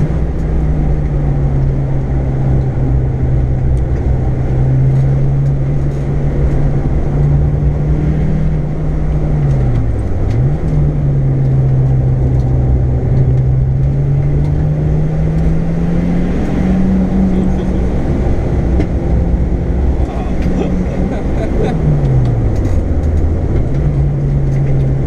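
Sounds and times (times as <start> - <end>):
race car engine running: 0.0 - 25.0.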